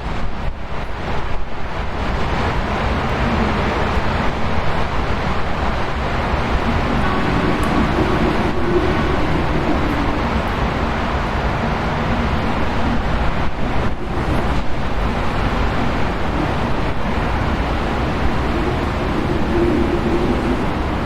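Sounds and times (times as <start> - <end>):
wind blowing: 0.0 - 21.0.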